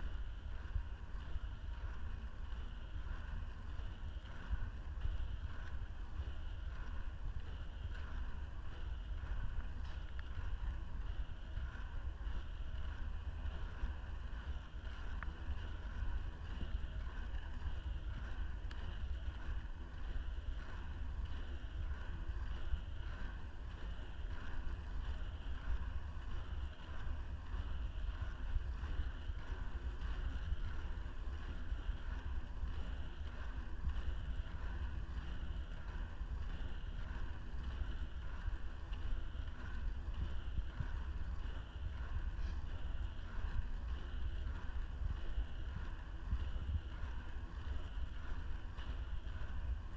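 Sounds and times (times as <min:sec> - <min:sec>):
inline skate wheels rolling on asphalt: 0:00.0 - 0:49.9
wind buffeting microphone: 0:00.0 - 0:49.9.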